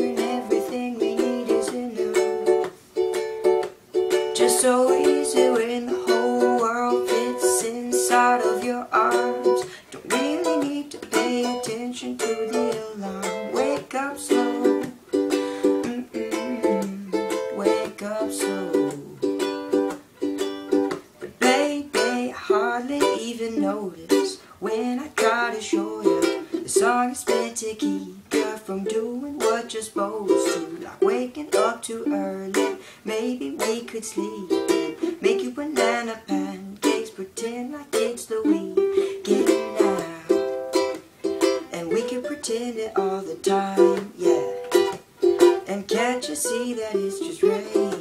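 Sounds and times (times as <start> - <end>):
solo ukulele plucking and strumming: 0.0 - 48.0.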